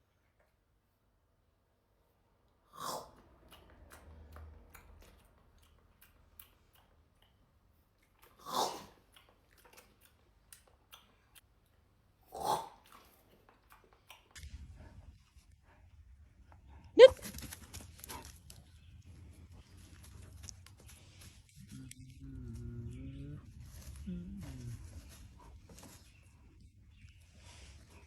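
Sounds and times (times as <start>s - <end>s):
animal chewing and crunching food: 2.8s - 28.0s.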